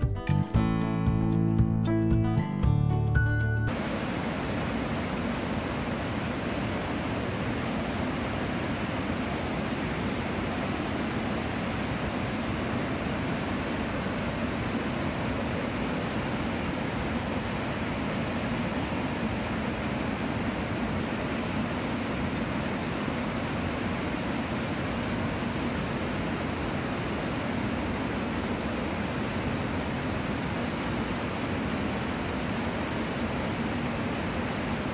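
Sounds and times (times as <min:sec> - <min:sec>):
waterfall rushing: 0:03.7 - 0:34.9.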